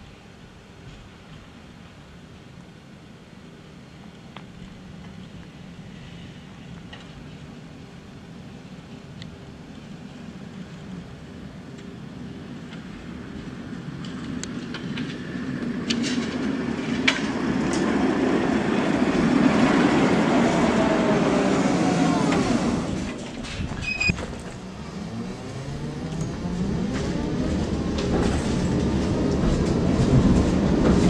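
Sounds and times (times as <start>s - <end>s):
tram rolling on rails: 0.1s - 31.0s.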